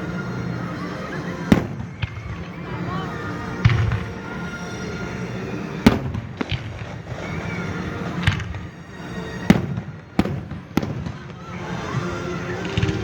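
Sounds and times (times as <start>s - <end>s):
fireworks bursting with sharp bangs: 1.0s - 13.0s.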